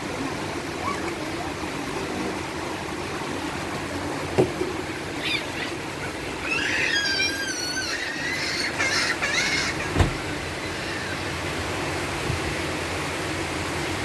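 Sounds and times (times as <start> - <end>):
heavy rain and wind: 0.0 - 14.0.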